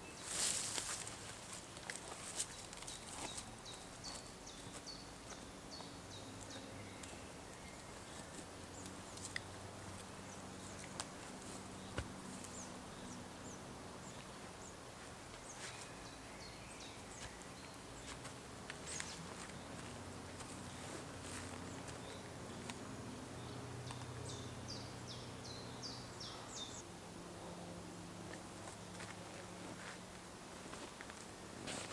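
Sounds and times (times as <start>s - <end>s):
small birds chirping: 0.0s - 26.9s
faint low hum: 0.0s - 31.9s.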